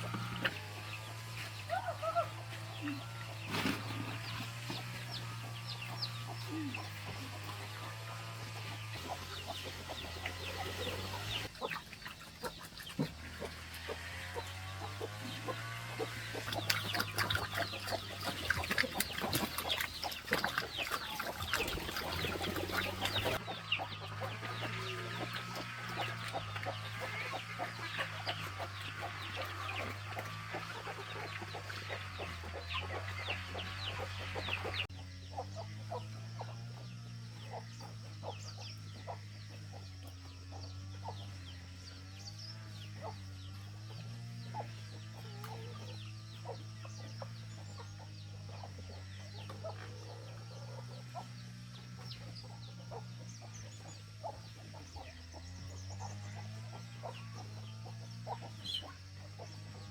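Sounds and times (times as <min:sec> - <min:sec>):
chickens clucking and calling: 0:00.0 - 0:59.9.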